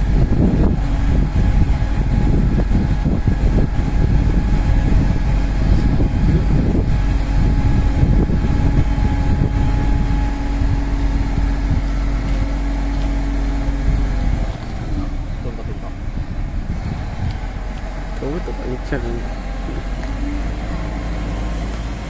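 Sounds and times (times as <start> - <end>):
crane engine running: 0.0 - 22.0
steady whine: 0.0 - 22.0.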